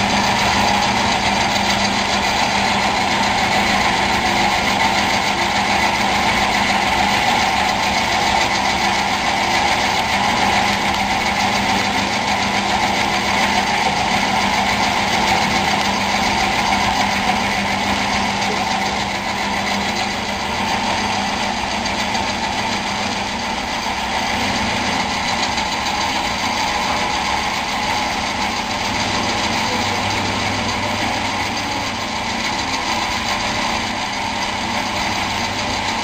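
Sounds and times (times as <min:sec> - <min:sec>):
snack extruder machine droning: 0:00.0 - 0:36.0.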